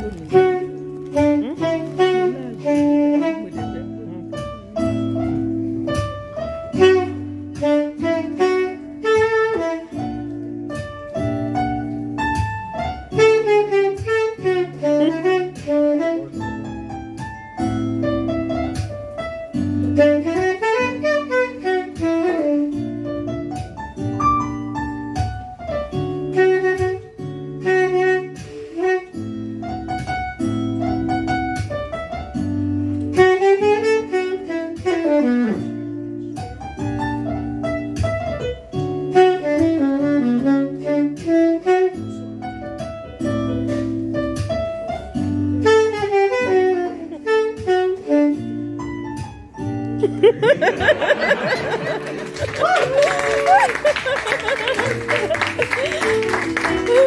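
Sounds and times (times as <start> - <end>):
sustained keyboard chords: 0.0 - 28.2, 29.6 - 52.6, 53.7 - 57.0
saxophone melody: 0.0 - 57.0.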